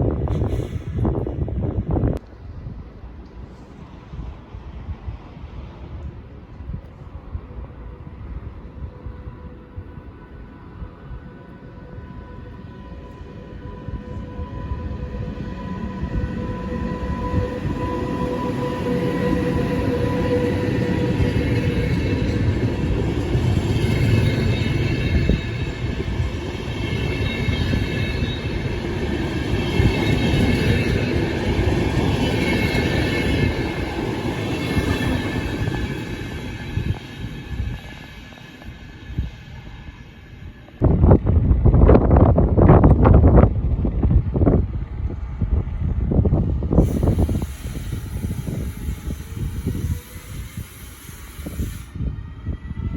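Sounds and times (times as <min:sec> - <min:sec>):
train wheels rumbling: 0:00.0 - 0:52.9.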